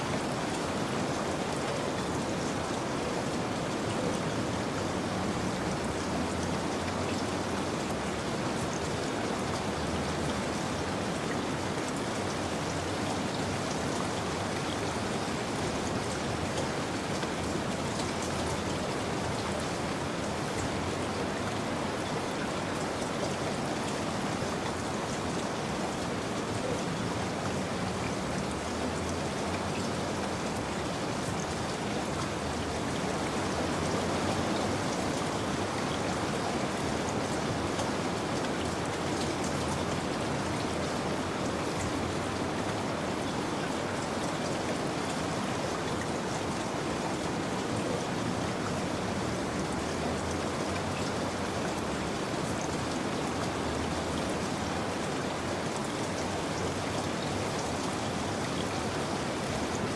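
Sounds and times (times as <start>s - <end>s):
rain drops pattering: 0.0s - 59.9s
steady rain hiss: 0.0s - 59.9s.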